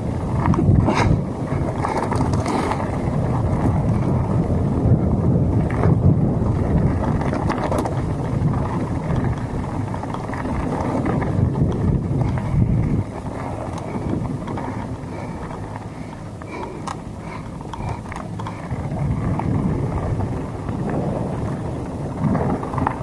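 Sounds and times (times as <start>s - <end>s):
bike knocks and rattles: 0.0s - 23.0s
bike tyres on gravel: 0.0s - 23.0s
wind buffeting microphone: 0.0s - 23.0s.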